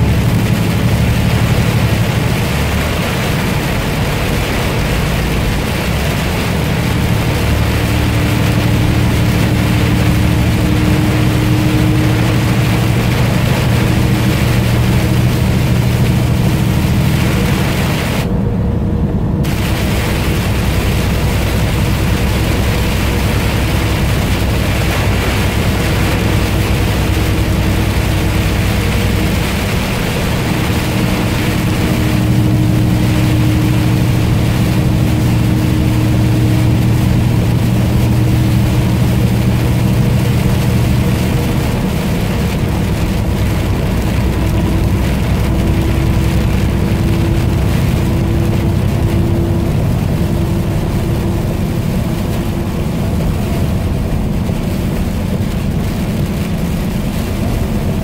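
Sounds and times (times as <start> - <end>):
engine and road hum: 0.0 - 58.0
rain on windshield: 0.0 - 58.0
tyres hissing on wet road: 0.0 - 58.0.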